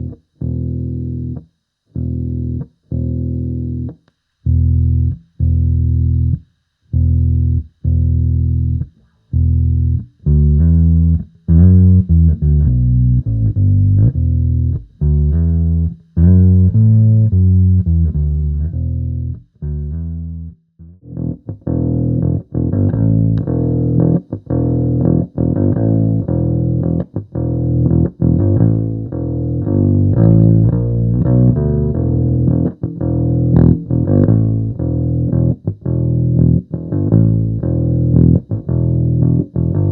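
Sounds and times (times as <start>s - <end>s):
overdriven electric bass: 0.0s - 39.9s.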